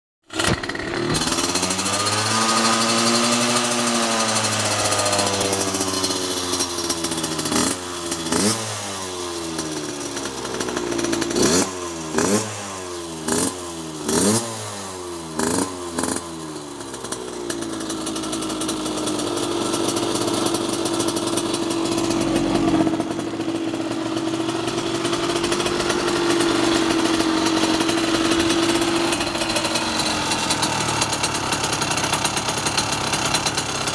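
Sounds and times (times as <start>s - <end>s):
two-stroke engine revving: 0.3s - 33.9s.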